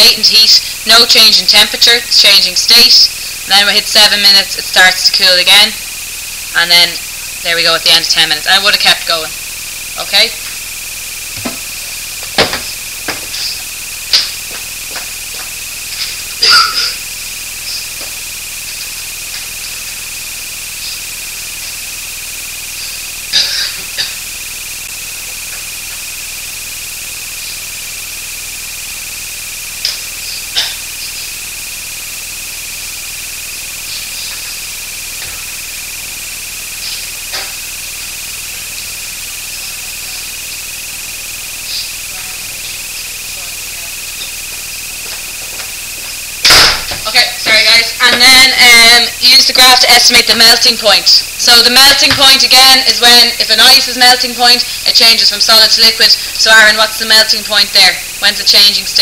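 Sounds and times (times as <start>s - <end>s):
steady high-pitched whine: 0.0s - 59.0s.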